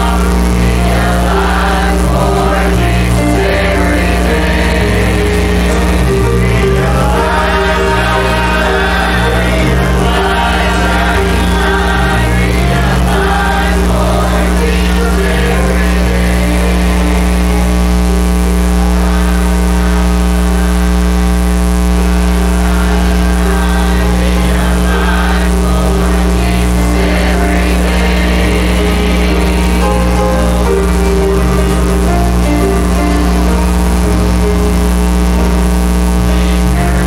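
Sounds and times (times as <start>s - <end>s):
choir singing a gospel hymn: 0.0s - 17.9s, 18.7s - 20.9s, 22.0s - 34.4s, 36.2s - 37.0s
bass line: 0.0s - 37.0s
guitar: 0.0s - 37.0s
piano: 0.0s - 37.0s.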